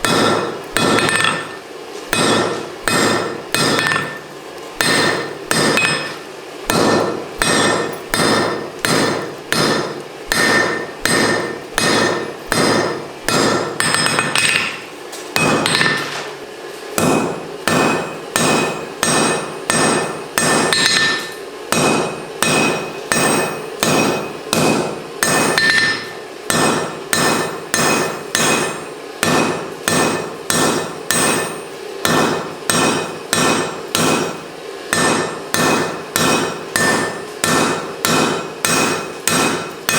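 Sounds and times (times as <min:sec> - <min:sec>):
hammer striking steel on anvil: 0:00.0 - 0:16.3, 0:17.0 - 0:39.9.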